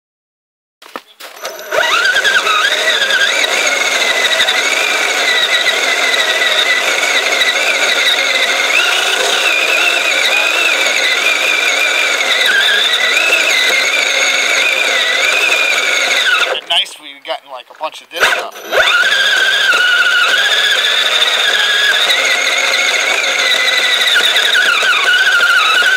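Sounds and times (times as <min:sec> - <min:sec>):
toy vehicle motor whining: 0:01.3 - 0:16.8, 0:18.2 - 0:25.9.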